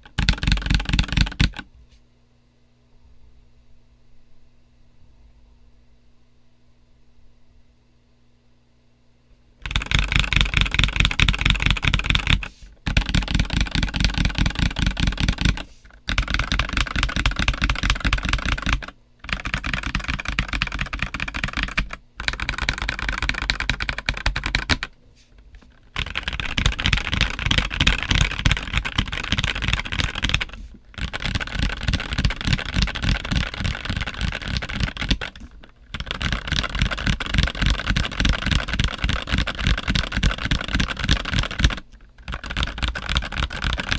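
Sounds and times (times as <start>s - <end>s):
mechanical keyboard typing: 0.0s - 1.7s, 9.6s - 25.0s, 25.6s - 43.9s.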